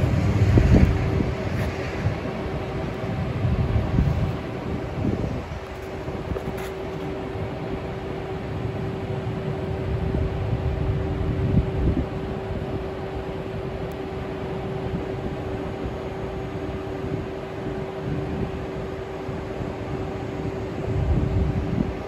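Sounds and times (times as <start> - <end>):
electric locomotive humming: 0.0 - 22.0
low rumble: 0.0 - 22.0.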